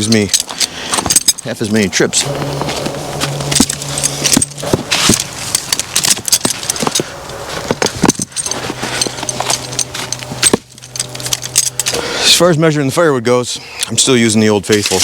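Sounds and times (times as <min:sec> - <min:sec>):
metal log tongs clinking: 0:00.0 - 0:12.1
low engine hum: 0:00.0 - 0:12.3.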